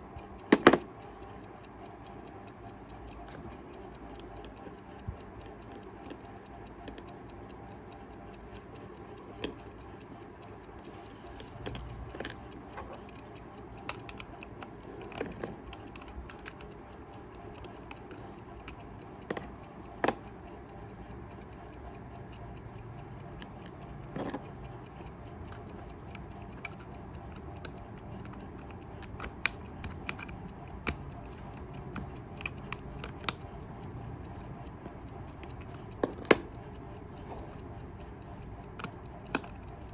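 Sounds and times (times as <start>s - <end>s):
irregular clicks and knocks: 0.0s - 16.9s, 22.3s - 39.9s
alarm clock ticking: 0.0s - 39.9s.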